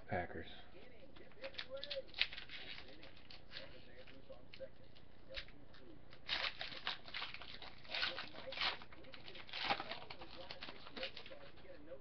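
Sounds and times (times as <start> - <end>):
foil wrapper crinkling and tearing: 1.3 - 4.7, 5.3 - 11.7.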